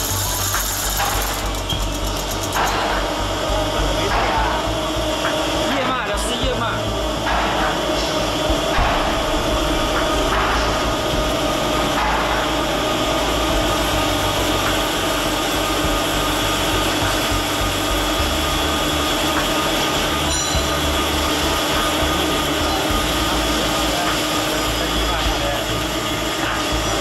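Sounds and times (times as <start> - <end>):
drilling machine humming and whining: 0.0 - 27.0.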